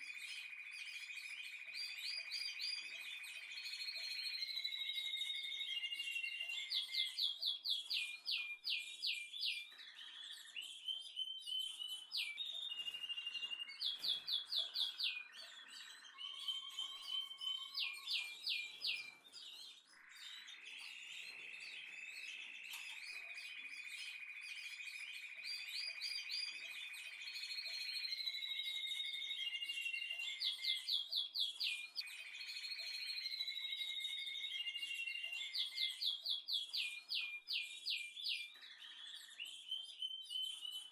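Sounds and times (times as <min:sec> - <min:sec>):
bird-like chirping and whistling: 0:00.0 - 0:40.9.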